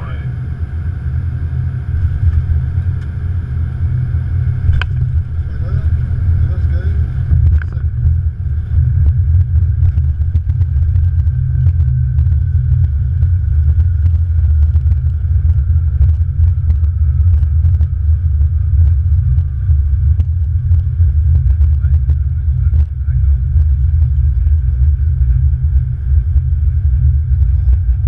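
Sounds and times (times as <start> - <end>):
faint falling whine: 0.0 - 28.0
low rumble of aircraft wheels: 0.0 - 28.0.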